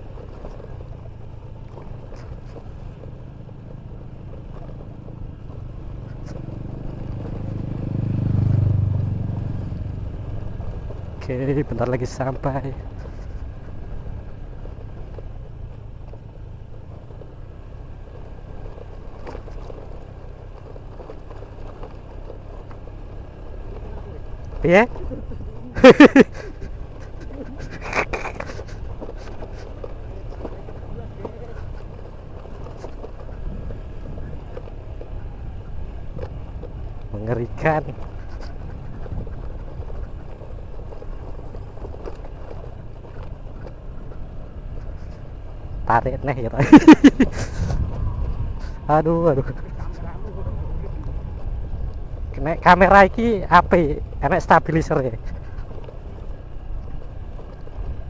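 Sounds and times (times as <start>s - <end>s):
scooter engine rumble: 0.0s - 58.0s.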